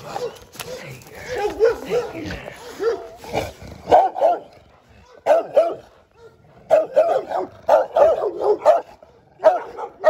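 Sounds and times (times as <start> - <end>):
dog barking: 0.0 - 3.2, 3.8 - 10.0.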